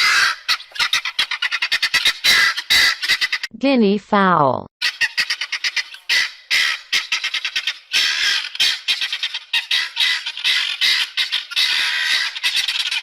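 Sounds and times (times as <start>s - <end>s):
guineafowl calling: 0.0s - 3.5s, 4.8s - 13.0s.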